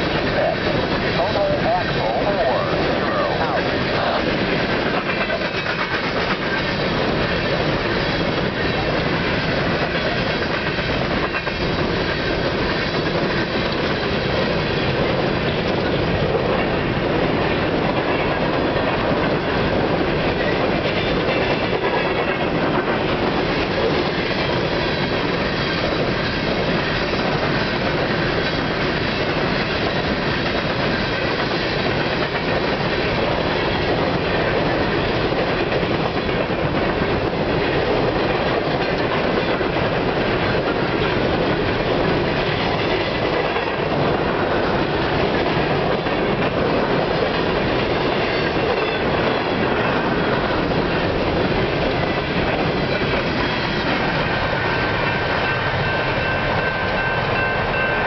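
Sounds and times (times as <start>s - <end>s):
empty freight cars rattling: 0.0s - 58.0s
steel wheels rumbling on rail: 0.0s - 58.0s.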